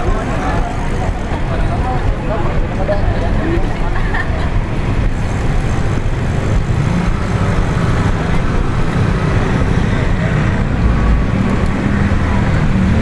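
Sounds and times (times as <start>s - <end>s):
bicycle tyre noise: 0.0s - 13.0s
wind buffeting microphone: 0.0s - 13.0s.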